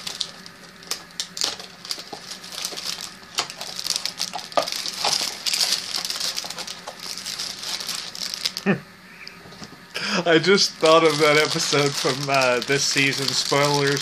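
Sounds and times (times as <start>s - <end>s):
foil bag crinkling: 0.0s - 8.8s, 10.3s - 14.0s.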